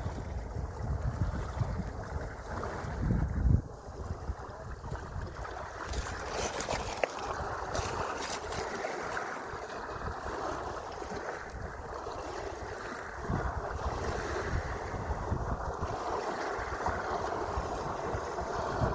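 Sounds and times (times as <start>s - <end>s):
sea waves washing in: 0.0s - 18.9s
wind rumbling on microphone: 0.0s - 18.9s.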